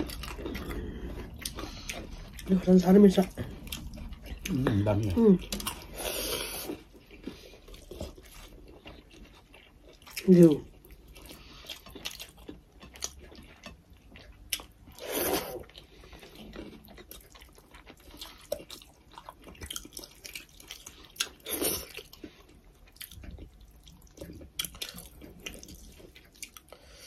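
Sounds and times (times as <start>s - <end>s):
chewing with wet mouth clicks: 0.0s - 26.8s.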